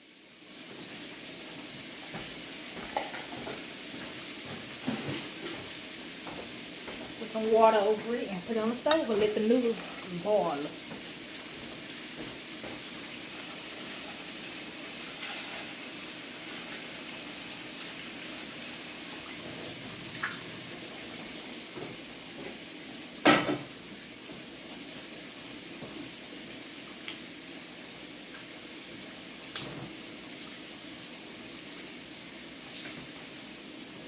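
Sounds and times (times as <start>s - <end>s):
pork chops sizzling in skillet: 0.0s - 34.0s.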